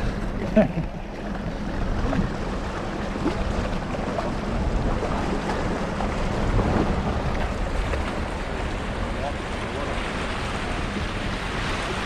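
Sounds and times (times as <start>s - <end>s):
steady engine drone: 0.0s - 12.0s
wind buffeting microphone: 0.0s - 12.0s.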